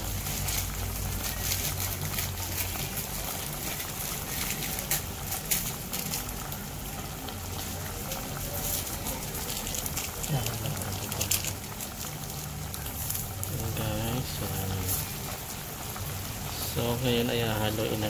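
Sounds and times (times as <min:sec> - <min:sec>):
pot of water boiling: 0:00.0 - 0:18.0.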